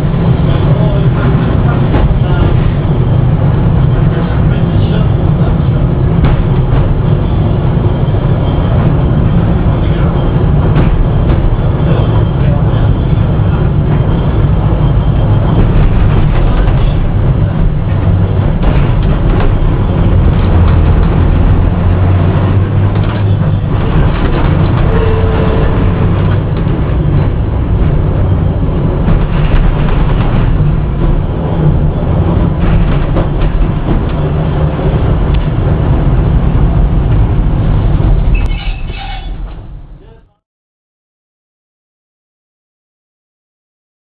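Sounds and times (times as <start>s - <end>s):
tram wheels rumbling on rails: 0.0s - 40.4s.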